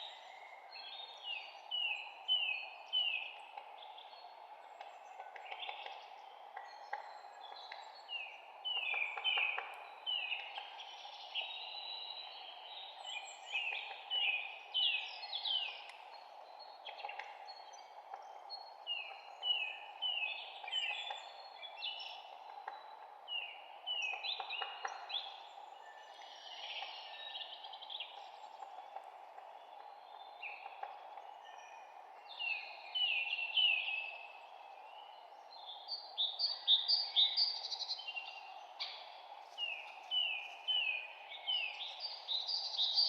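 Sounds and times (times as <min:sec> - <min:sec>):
low background hiss: 0:00.0 - 0:43.0
songbirds chirping: 0:00.0 - 0:43.0.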